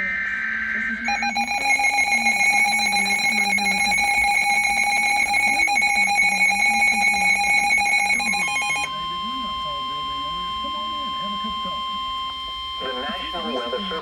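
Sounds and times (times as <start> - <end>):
buzzy electronic alarm beeps: 0.0 - 14.0.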